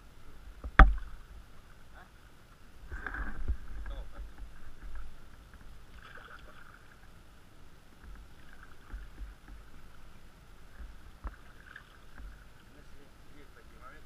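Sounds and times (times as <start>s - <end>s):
water splashing against a boat: 0.3s - 14.0s.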